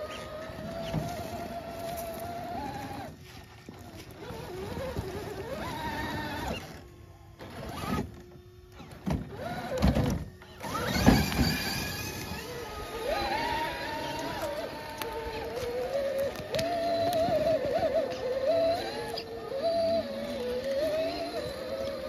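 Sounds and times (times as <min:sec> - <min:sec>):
toy car electric motor whining: 0:00.0 - 0:22.0.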